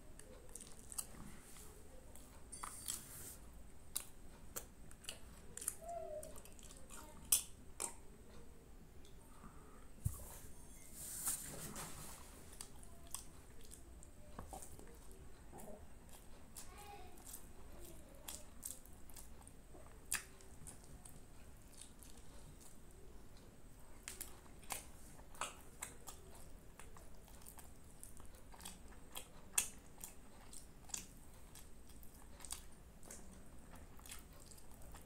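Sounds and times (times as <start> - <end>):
person chewing food: 0.0 - 10.5, 11.7 - 35.0.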